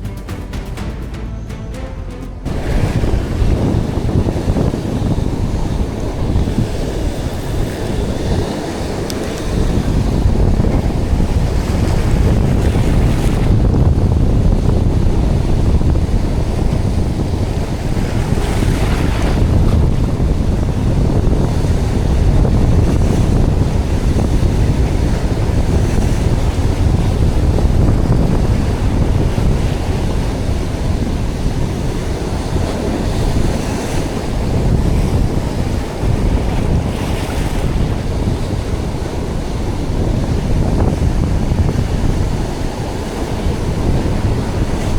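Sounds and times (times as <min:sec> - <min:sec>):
wave breaking: 0:00.0 - 0:44.9
wind buffeting microphone: 0:02.4 - 0:44.9
surf washing onto beach: 0:02.5 - 0:44.9.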